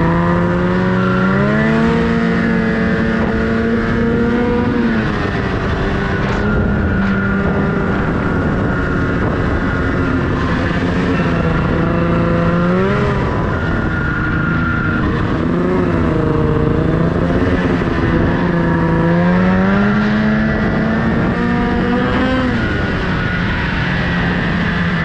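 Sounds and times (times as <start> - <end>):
snowmobile engine revving: 0.0 - 25.0
steady rushing noise: 0.0 - 25.0.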